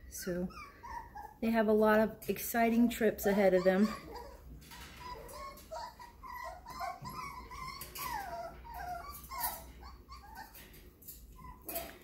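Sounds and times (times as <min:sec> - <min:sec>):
puppies whimpering and yipping: 0:00.2 - 0:01.5, 0:03.3 - 0:12.0.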